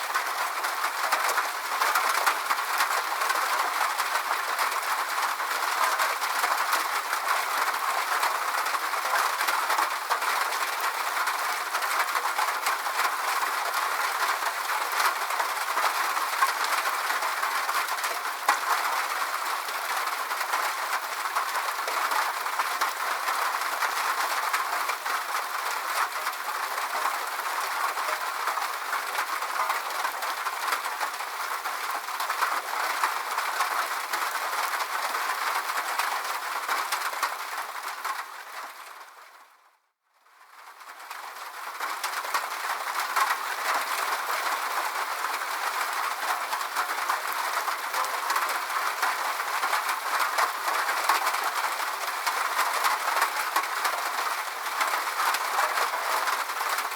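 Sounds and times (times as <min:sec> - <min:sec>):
steady rain hiss: 0:00.0 - 0:39.3, 0:40.6 - 0:56.9.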